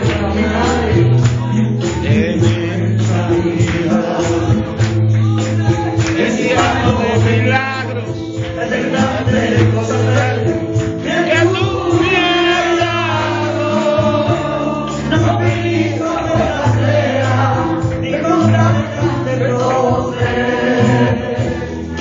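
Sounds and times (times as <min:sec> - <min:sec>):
backing voices singing: 0:00.0 - 0:22.0
instrumental accompaniment: 0:00.0 - 0:22.0
man singing through a microphone: 0:00.0 - 0:22.0.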